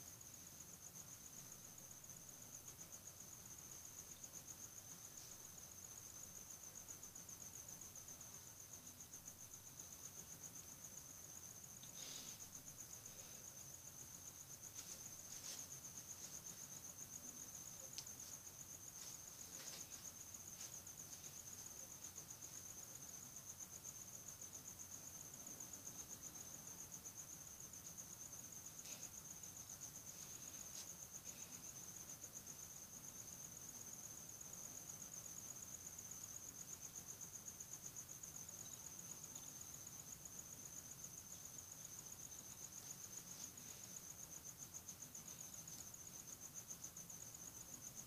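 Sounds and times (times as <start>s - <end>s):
cricket chirping trill: 0.0s - 48.0s.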